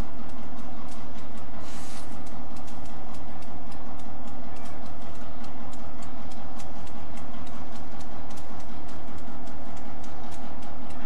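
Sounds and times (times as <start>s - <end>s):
light ticking: 0.0s - 11.0s
locomotive engine low drone: 0.0s - 11.0s.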